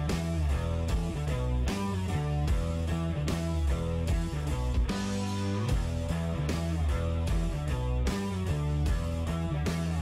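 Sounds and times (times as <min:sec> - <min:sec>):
background music with quick beat: 0:00.0 - 0:10.0.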